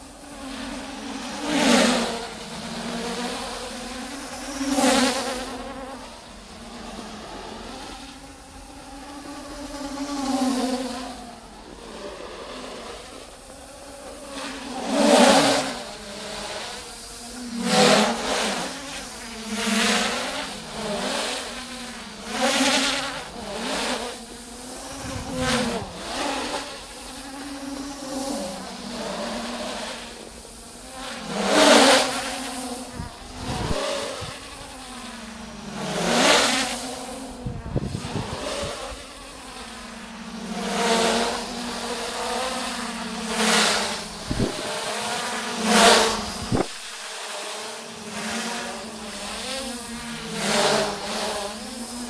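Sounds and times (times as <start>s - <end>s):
drone motors buzzing: 0.0s - 52.0s.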